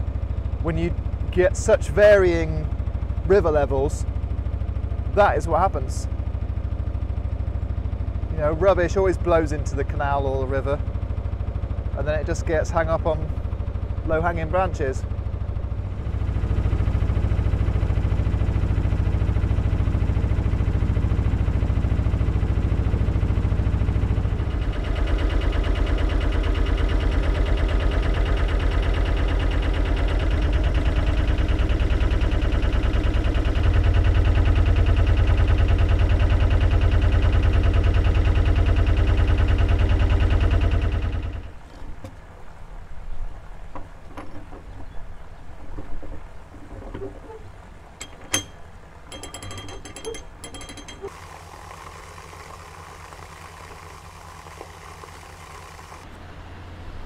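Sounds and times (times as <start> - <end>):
diesel engine throbbing: 0.0 - 41.6, 43.3 - 51.2.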